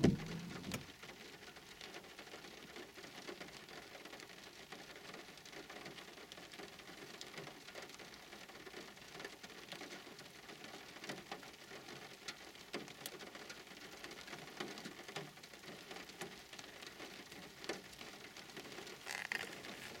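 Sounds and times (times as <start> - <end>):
faint steady rain: 0.0 - 20.0.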